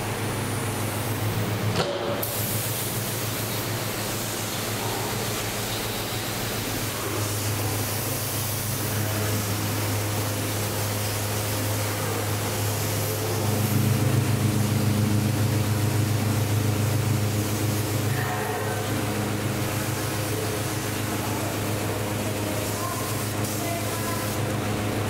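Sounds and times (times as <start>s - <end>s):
low machine hum: 0.0s - 25.0s
paint spray gun hissing: 2.2s - 25.0s.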